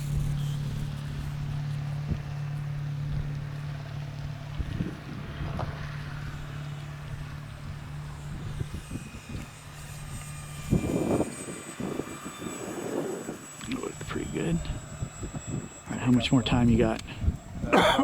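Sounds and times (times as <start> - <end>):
rc airplane motor droning: 0.0 - 18.0
wind buffeting microphone: 0.0 - 18.0.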